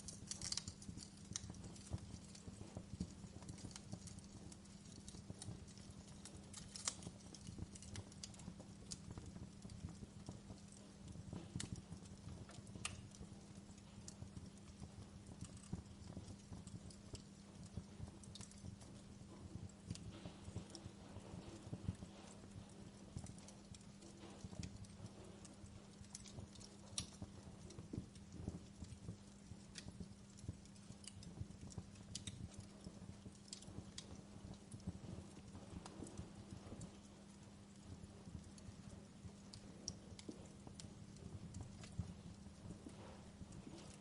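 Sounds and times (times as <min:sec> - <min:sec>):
steady low hum: 0:00.0 - 0:44.0
wood fire crackling: 0:00.0 - 0:44.0.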